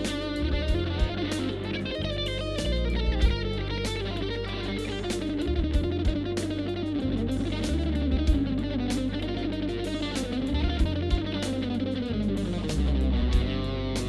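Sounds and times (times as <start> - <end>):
electric guitar melody: 0.0 - 14.0
low bass notes: 0.0 - 14.0.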